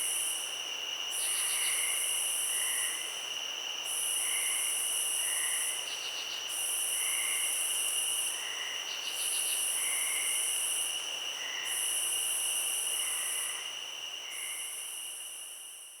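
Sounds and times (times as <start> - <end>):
insect chirps: 0.0 - 16.0.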